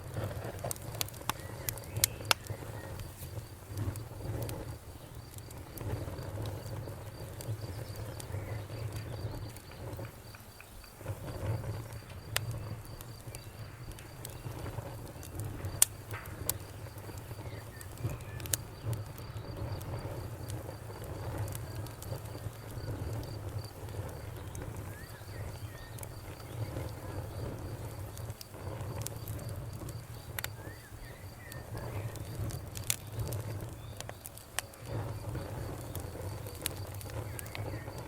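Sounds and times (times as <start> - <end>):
fire crackling with pops: 0.0 - 38.0.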